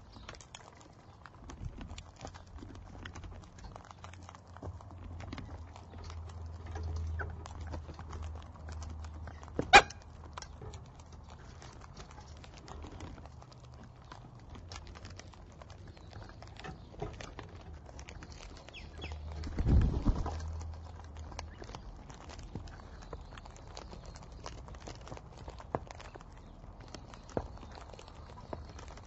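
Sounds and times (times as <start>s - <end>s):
birds pecking and cracking seed: 0.0s - 29.0s.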